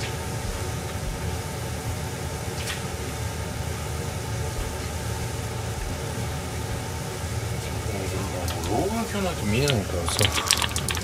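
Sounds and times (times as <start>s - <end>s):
gas burner hissing: 0.0s - 11.0s.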